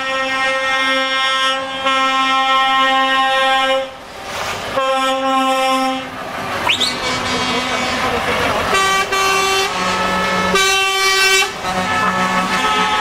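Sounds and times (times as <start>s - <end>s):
truck air horn blast: 0.0s - 4.0s, 4.7s - 13.0s.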